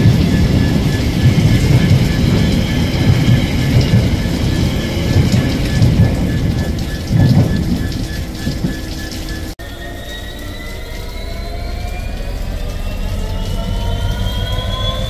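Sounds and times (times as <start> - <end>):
heavy rain pouring: 0.0 - 15.0
low rumbling: 0.0 - 15.0.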